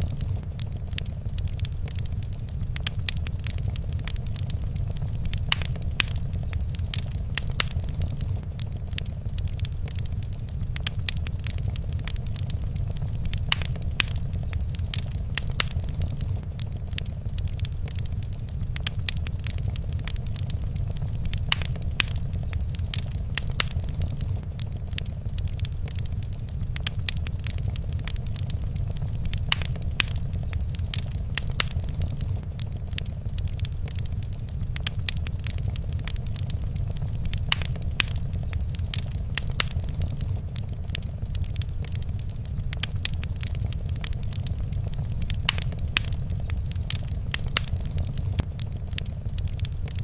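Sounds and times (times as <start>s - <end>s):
fire crackling and popping: 0.0s - 50.0s
low fire rumble: 0.0s - 50.0s.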